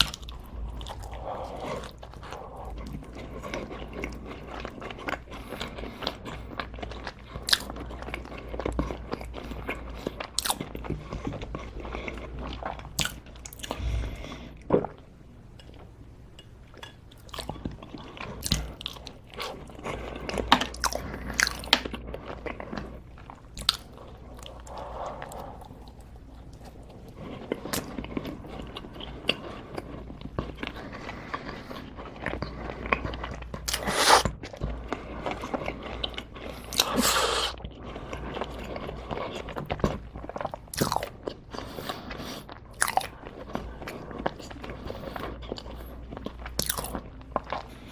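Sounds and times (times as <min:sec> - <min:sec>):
person chewing crunchy food: 0:00.0 - 0:47.9.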